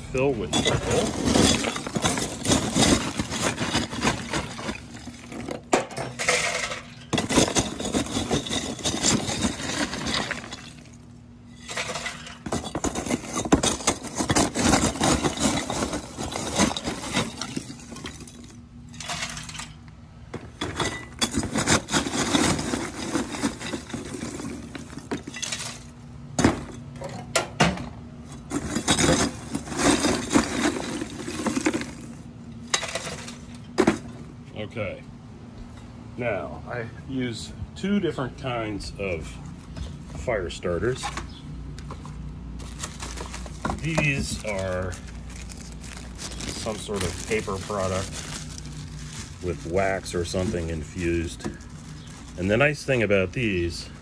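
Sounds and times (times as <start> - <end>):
charcoal lumps clattering: 0.0 - 34.2, 40.2 - 54.0.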